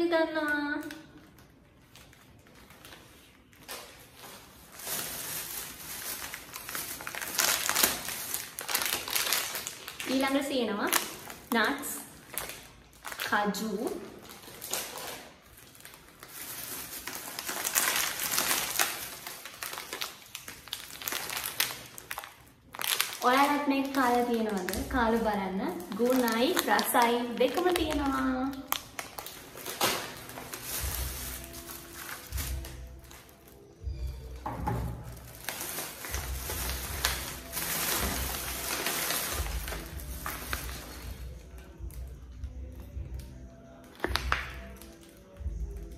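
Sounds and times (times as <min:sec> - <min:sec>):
plastic packaging crinkling: 0:00.3 - 0:45.9.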